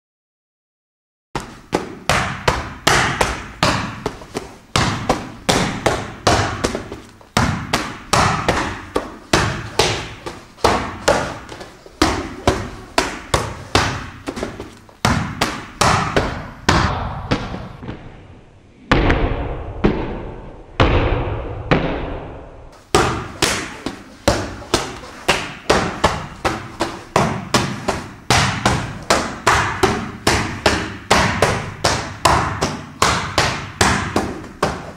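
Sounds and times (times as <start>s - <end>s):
strikes slapping padded mitts: 1.4s - 17.9s, 22.9s - 34.9s.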